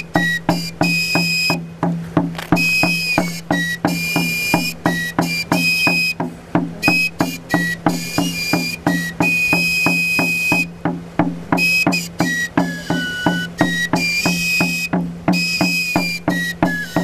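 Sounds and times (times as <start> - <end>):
shrill whistling pipe melody: 0.0 - 17.0
steady drumbeat: 0.0 - 17.0.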